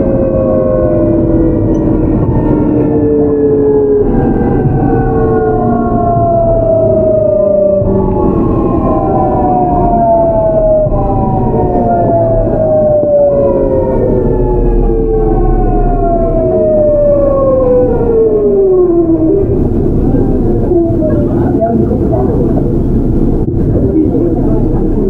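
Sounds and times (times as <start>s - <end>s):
train inverter whine: 0.0s - 25.0s.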